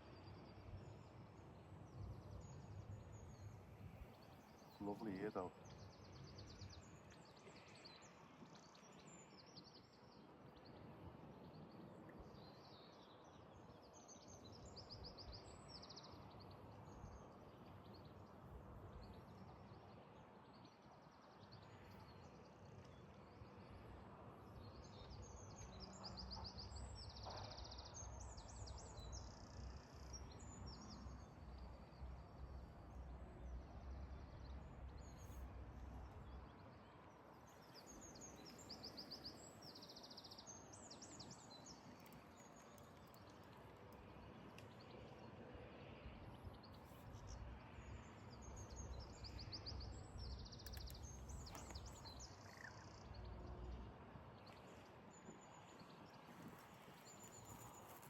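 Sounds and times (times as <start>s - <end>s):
small birds singing: 0.0s - 58.0s.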